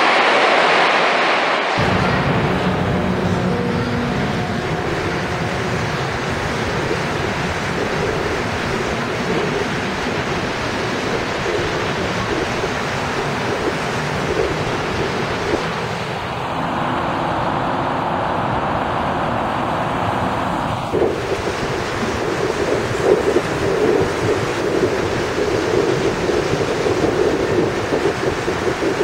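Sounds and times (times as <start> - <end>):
metro train rumbling past: 0.0 - 29.0.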